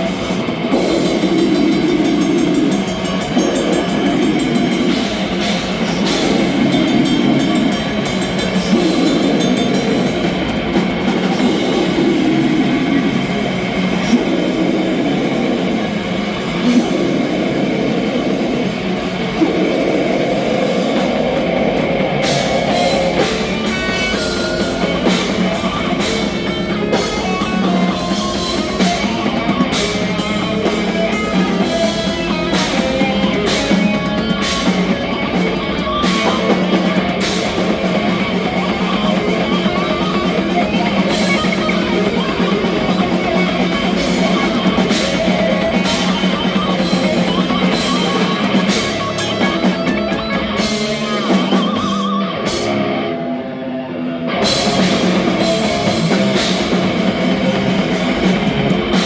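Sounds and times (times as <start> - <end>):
drum kit: 0.0 - 53.2, 54.3 - 59.0
distorted electric guitars: 0.0 - 59.0.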